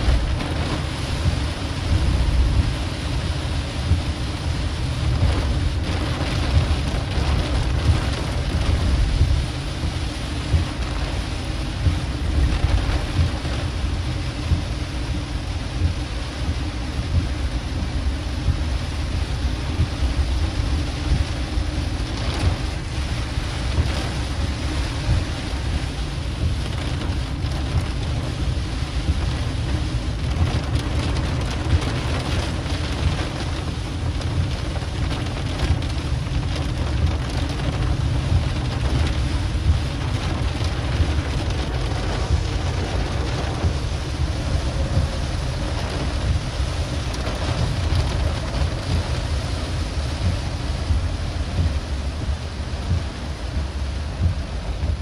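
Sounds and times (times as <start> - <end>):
car rumbling on wet road: 0.0 - 55.0
heavy rain on car windshield: 0.0 - 55.0.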